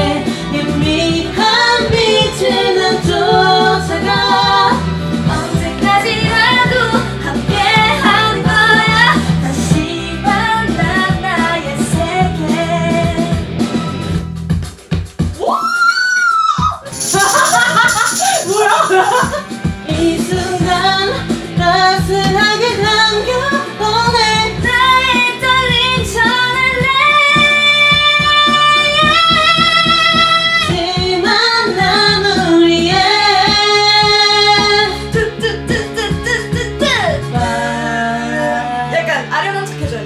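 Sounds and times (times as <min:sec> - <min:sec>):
women singing karaoke: 0:00.0 - 0:13.6, 0:15.4 - 0:40.0
karaoke backing track: 0:00.0 - 0:40.0.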